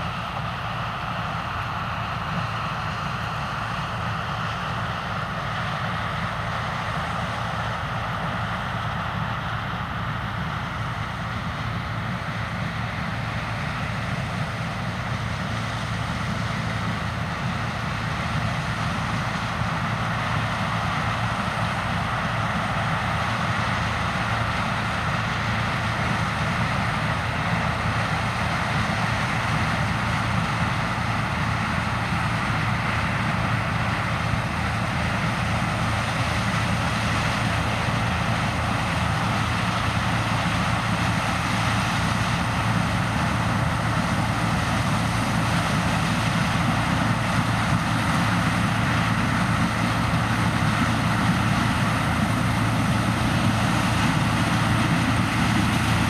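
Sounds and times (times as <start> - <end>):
harvester diesel engine running: 0.0 - 56.0.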